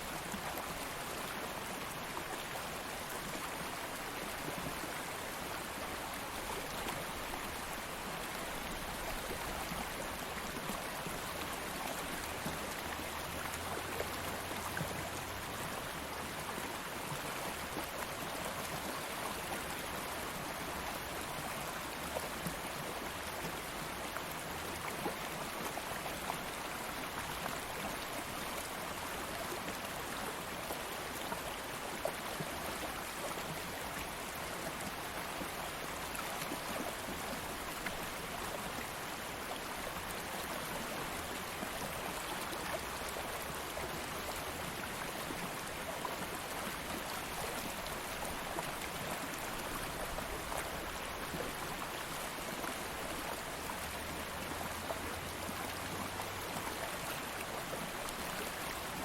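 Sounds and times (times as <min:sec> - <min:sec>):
shallow stream flowing: 0:00.0 - 0:59.0.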